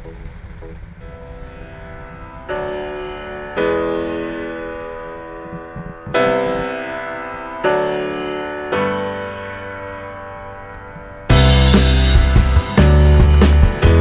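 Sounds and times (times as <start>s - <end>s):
slow piano chords: 1.0s - 14.0s.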